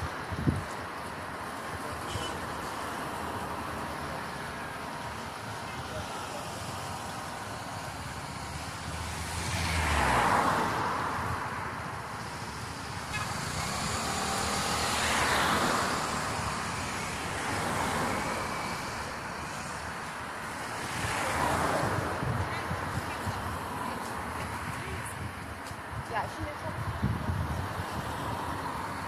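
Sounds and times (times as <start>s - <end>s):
cars passing: 0.0s - 29.0s
steady traffic noise: 0.0s - 29.0s.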